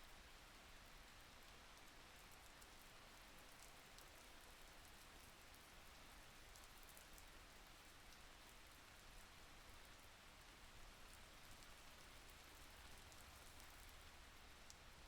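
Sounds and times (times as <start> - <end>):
faint steady rain: 0.0 - 15.0.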